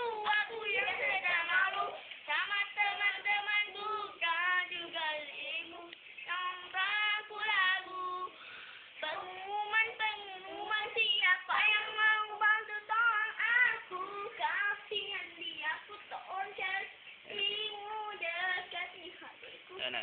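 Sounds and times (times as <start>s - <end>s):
child singing: 0.0s - 8.4s, 9.0s - 20.0s.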